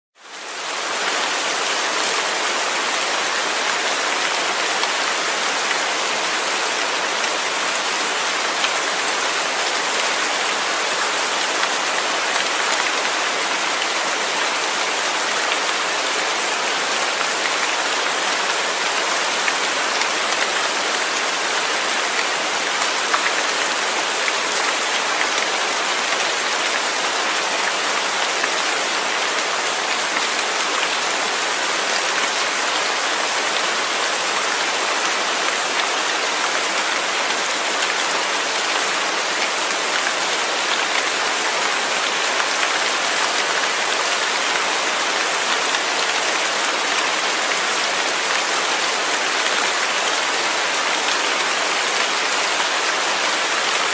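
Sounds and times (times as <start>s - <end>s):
rain falling: 0.2s - 53.9s.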